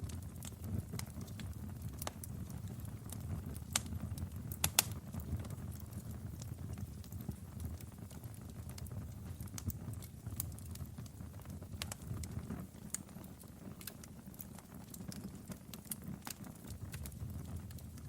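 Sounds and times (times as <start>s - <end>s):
fire crackling in fireplace: 0.0s - 18.0s.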